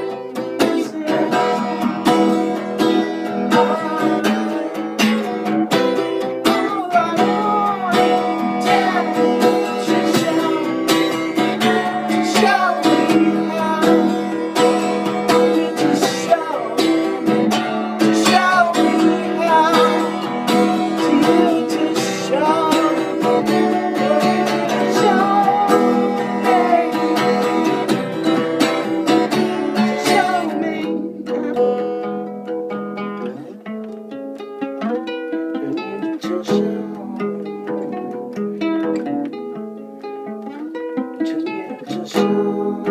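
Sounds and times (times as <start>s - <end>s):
acoustic guitar strumming: 0.0s - 42.9s
sliding guitar melody: 0.0s - 42.9s.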